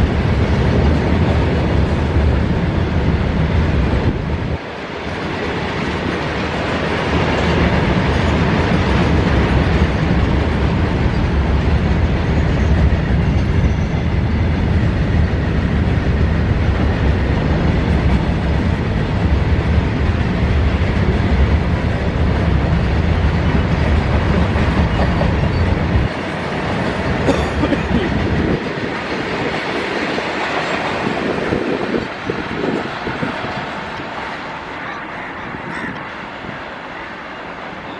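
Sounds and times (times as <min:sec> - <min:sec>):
train wheels rumbling on rail: 0:00.0 - 0:37.9.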